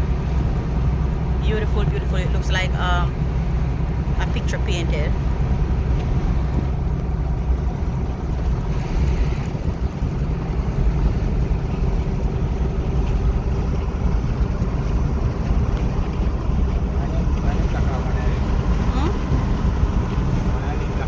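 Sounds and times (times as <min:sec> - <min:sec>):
car engine running: 0:00.0 - 0:21.0
tyres rumbling on road: 0:00.0 - 0:21.0.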